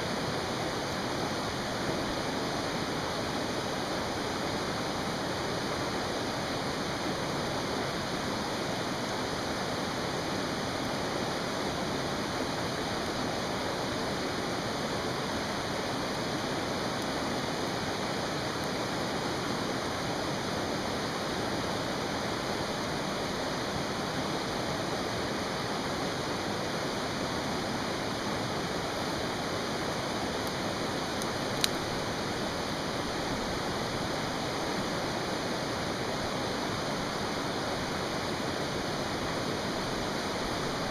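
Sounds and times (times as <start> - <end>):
stream rushing: 0.0 - 40.9.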